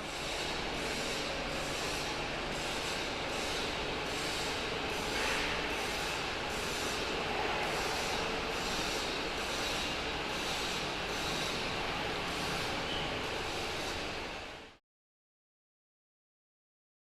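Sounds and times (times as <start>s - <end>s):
metal-turning lathe running: 0.0s - 14.5s.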